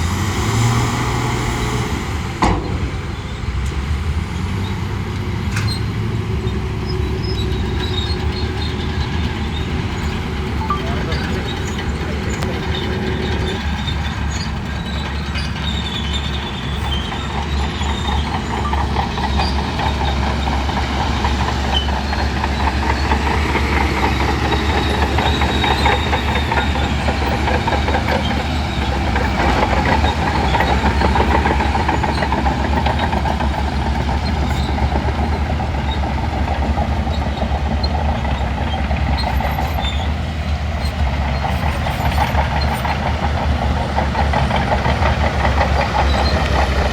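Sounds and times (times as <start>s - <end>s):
bulldozer diesel engine running: 0.0s - 46.9s
steel tracks clattering: 0.0s - 46.9s.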